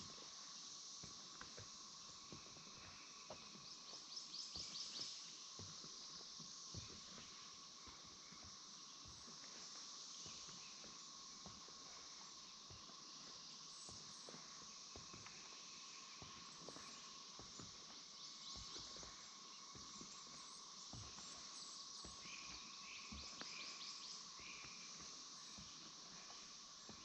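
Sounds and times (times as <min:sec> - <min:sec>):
footsteps on boardwalk: 0:01.0 - 0:04.7, 0:05.3 - 0:23.6, 0:24.2 - 0:27.0.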